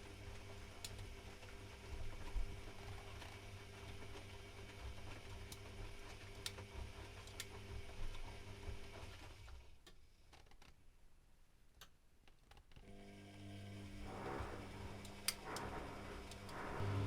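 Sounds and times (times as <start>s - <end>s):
washing machine hum and rumble: 0.0s - 9.7s, 12.9s - 17.0s.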